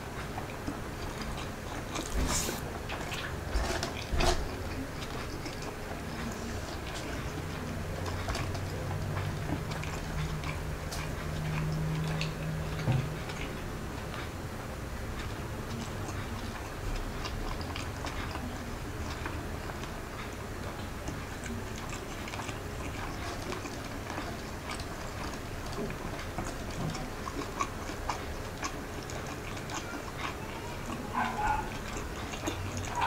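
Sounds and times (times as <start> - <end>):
low steady hum: 0.0 - 33.0
person chewing food: 0.0 - 33.0.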